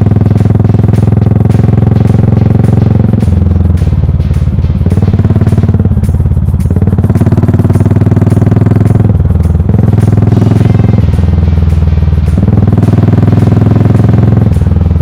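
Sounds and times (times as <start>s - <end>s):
motorcycle engine exhaust note: 0.0s - 15.0s.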